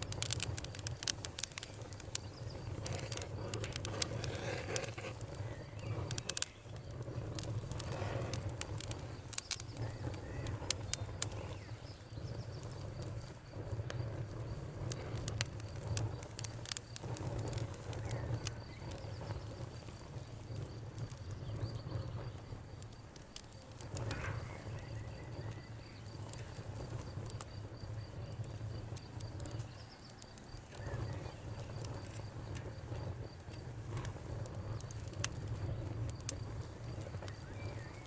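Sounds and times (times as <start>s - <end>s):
crickets chirping: 0.0s - 38.0s
wood fire crackling and popping: 0.0s - 38.0s.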